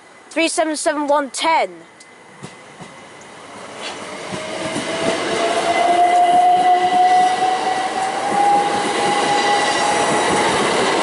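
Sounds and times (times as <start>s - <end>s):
train wheels on rails: 0.0s - 11.0s
train whining tone: 2.1s - 11.0s.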